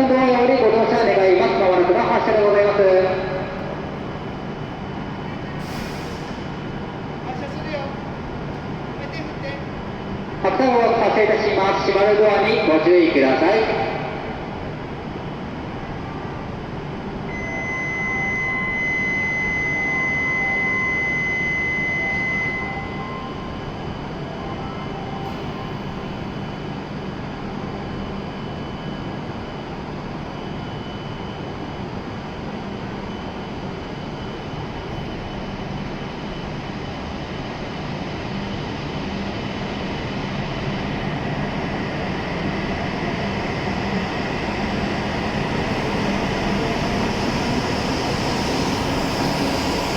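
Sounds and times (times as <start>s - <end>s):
train running noise: 0.0s - 49.9s.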